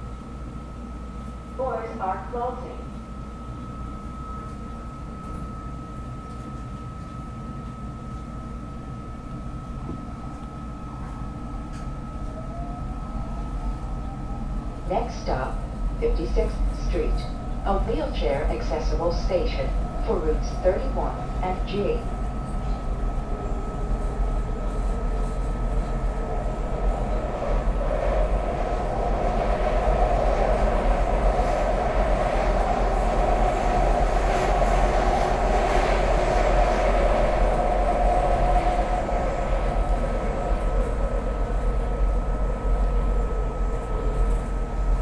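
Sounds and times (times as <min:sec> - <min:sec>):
train wheels rumbling on rail: 0:03.4 - 0:45.0.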